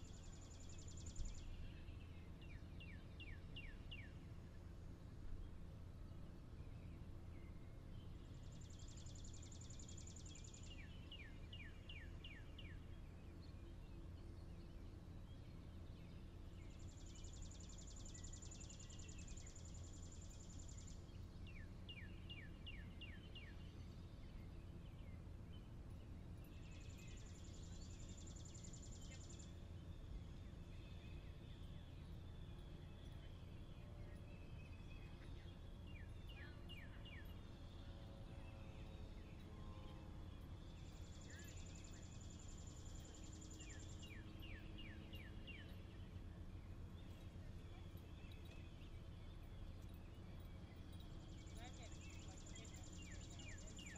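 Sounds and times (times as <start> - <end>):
bird singing trills: 0.0 - 4.4, 5.4 - 53.9
faint low room hum: 0.0 - 53.9.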